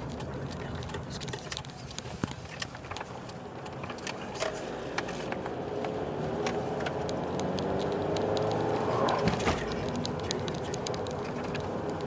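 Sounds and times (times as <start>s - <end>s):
car engine and tyre noise: 0.0s - 12.0s
light clicks and ticks: 0.0s - 12.0s.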